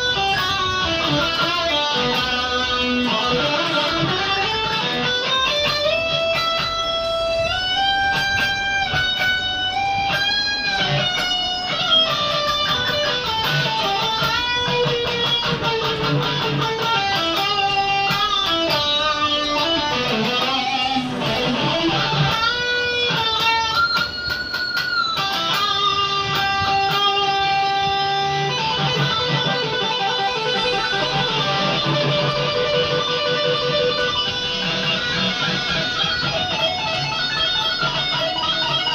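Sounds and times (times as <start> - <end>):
electric guitar melody: 0.0 - 38.9.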